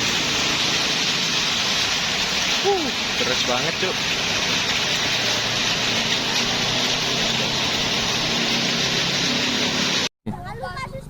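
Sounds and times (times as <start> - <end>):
very heavy rain: 0.0 - 10.1.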